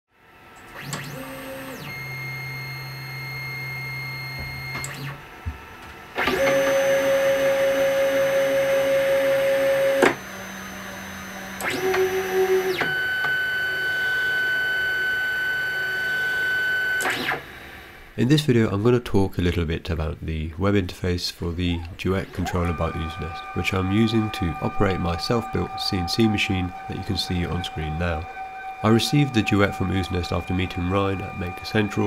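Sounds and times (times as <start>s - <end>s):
stepper motors whining: 0.5s - 18.1s, 21.4s - 32.0s.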